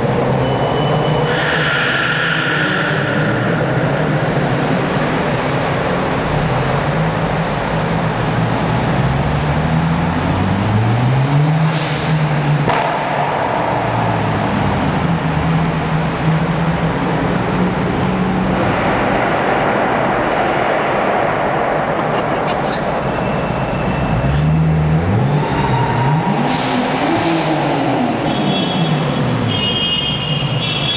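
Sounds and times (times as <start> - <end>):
traffic noise in tunnel: 0.0 - 30.9
car engine revving: 1.2 - 29.8
performance car exhausts: 1.2 - 30.9.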